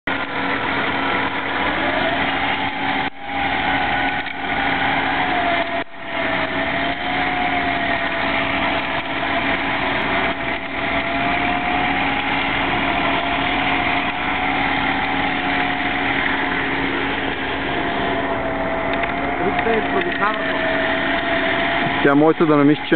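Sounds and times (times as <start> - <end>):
car engine running: 0.0 - 22.9
wavering whine: 0.1 - 22.9.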